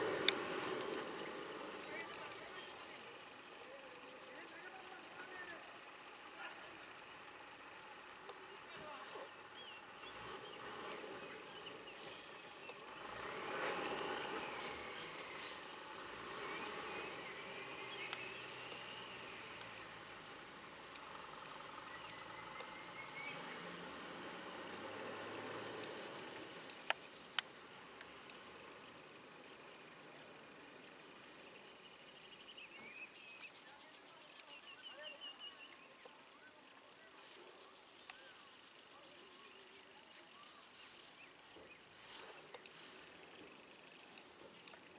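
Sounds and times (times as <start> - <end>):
insect chirping: 0.0 - 44.9.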